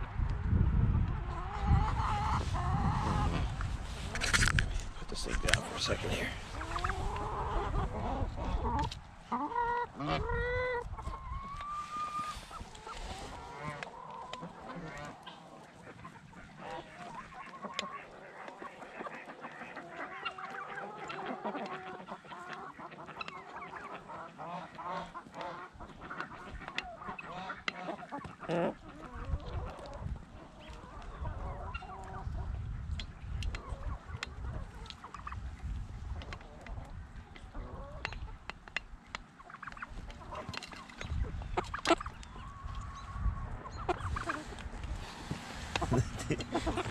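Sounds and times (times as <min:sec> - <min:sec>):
chickens clucking and squawking: 0:00.0 - 0:46.9.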